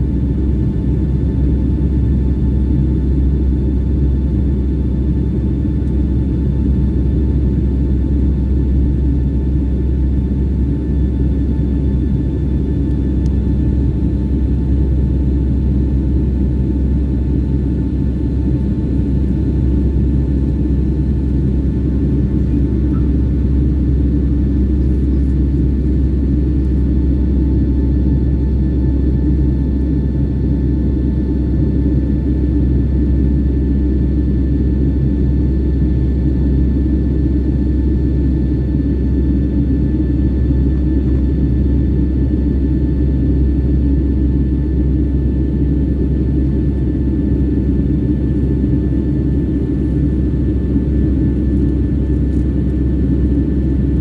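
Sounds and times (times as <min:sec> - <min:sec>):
airliner cabin engine rumble: 0:00.0 - 0:54.0
faint steady whine: 0:00.0 - 0:54.0.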